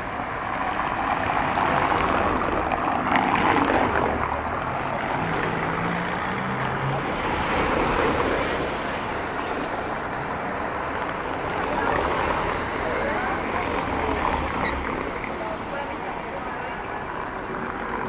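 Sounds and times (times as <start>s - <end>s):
crowd noise: 0.0s - 18.0s
traffic: 0.0s - 18.0s.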